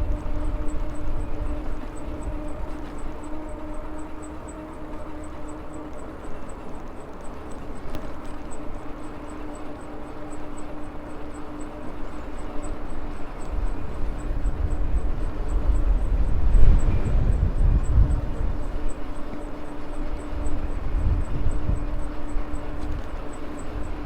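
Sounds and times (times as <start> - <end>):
electric bike motor hum: 0.0 - 24.0
wind buffeting microphone: 0.0 - 24.0.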